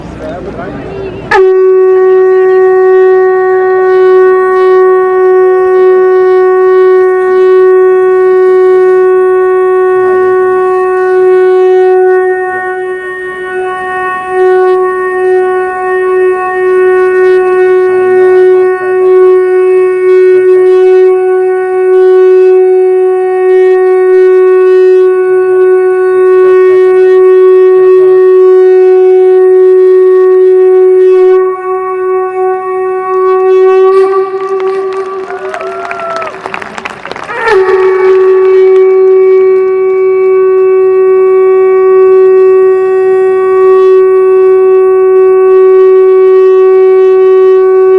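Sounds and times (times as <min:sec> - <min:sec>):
conch shell blown: 0:01.2 - 0:47.9.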